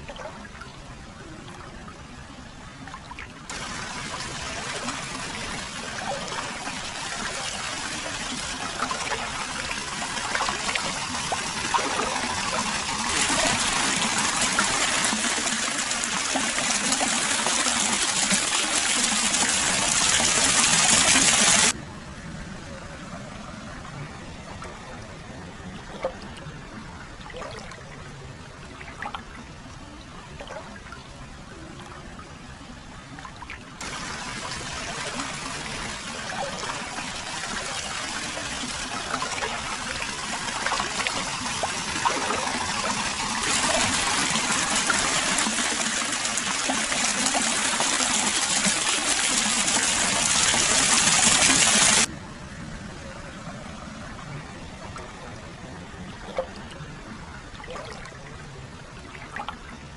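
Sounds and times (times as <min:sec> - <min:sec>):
water flowing into a pool: 0:00.0 - 0:21.8, 0:22.7 - 0:52.2, 0:53.0 - 0:59.9.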